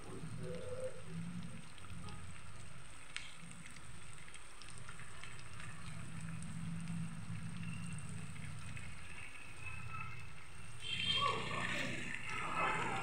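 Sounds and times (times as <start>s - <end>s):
food deep-frying in oil: 0.0s - 13.0s
oil crackles and pops: 0.0s - 13.0s.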